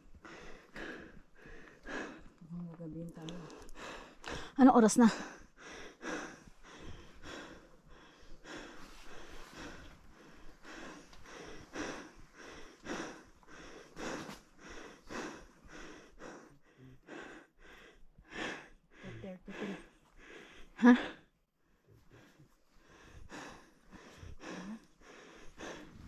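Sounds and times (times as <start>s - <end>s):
person breathing hard: 0.0s - 2.4s, 3.4s - 26.0s.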